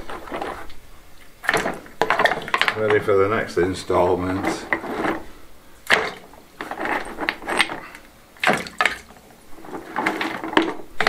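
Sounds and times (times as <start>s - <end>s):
stones clacking against a plastic bucket: 0.0s - 3.2s, 4.2s - 11.0s.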